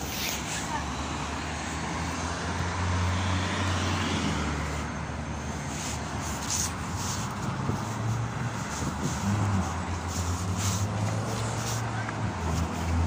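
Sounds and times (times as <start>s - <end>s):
bus rolling road noise: 0.0s - 13.0s.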